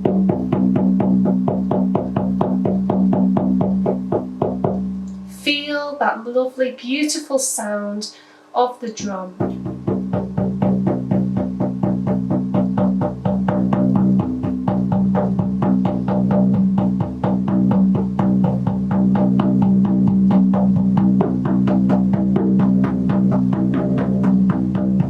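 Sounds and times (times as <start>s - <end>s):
drum beating steadily: 0.0s - 5.6s, 8.8s - 25.0s.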